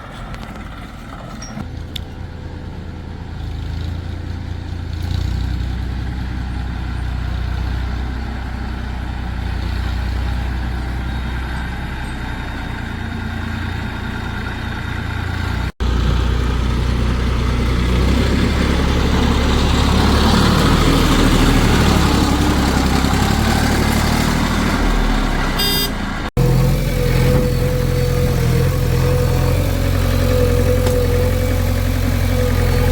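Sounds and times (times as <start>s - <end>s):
heavy diesel engines running: 0.0s - 32.9s.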